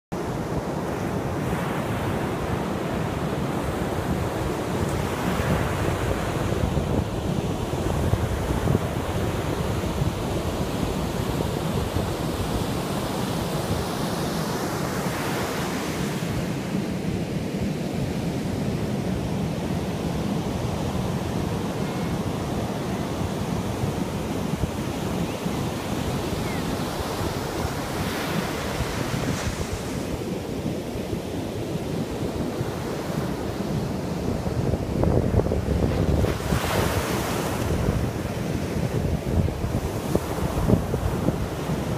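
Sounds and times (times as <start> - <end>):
sea surf breaking on beach: 0.2 - 41.9
wind rumbling on microphone: 0.3 - 14.2, 18.6 - 41.9.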